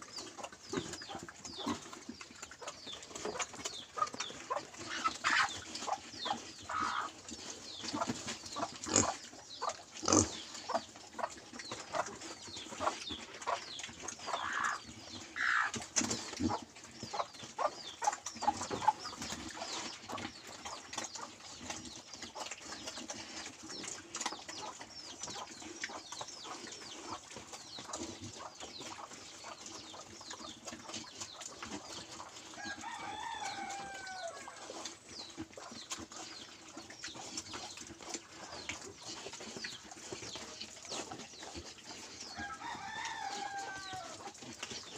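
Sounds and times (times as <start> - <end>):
pigs chomping and snuffling: 0.0 - 44.9.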